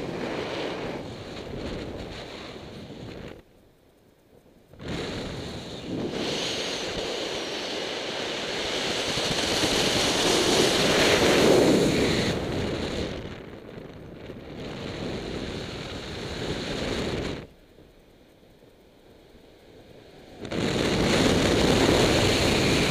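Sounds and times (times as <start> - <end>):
wind rushing over microphone: 0.0 - 3.4, 4.7 - 17.5, 19.4 - 22.9.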